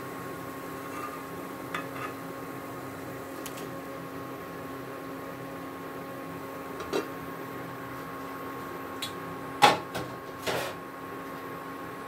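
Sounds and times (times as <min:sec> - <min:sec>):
induction cooktop humming: 0:00.0 - 0:12.0.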